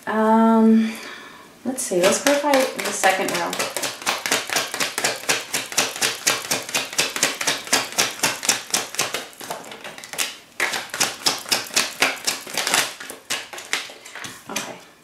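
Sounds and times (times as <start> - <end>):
cards being shuffled: 2.0 - 14.8.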